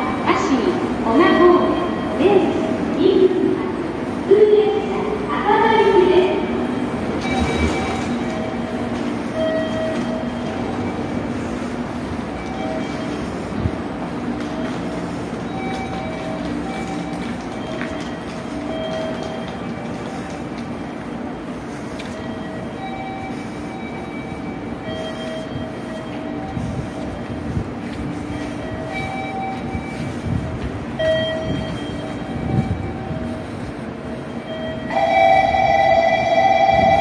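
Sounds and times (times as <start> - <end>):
train equipment humming: 0.0 - 37.0.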